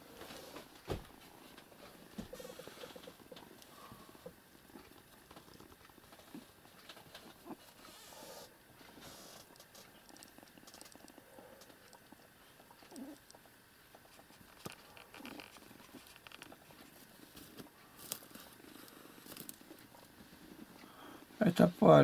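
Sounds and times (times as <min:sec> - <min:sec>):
faint cat purring: 0:00.0 - 0:22.0
cat licking kitten: 0:01.2 - 0:21.4.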